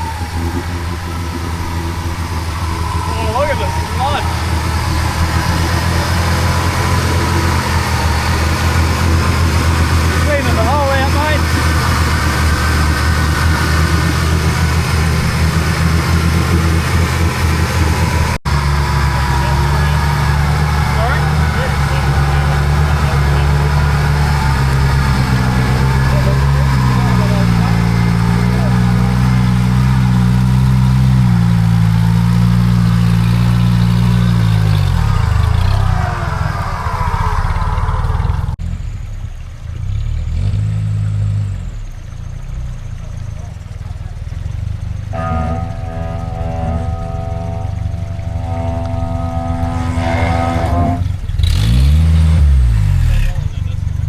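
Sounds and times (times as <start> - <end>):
vehicle engine running at low revs: 0.0 - 54.0.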